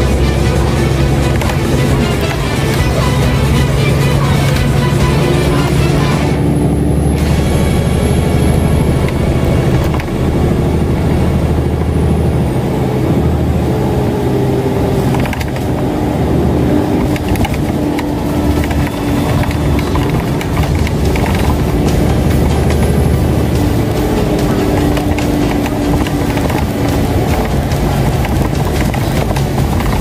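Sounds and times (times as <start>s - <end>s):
bus diesel engine: 0.0s - 30.0s
road noise: 0.0s - 30.0s.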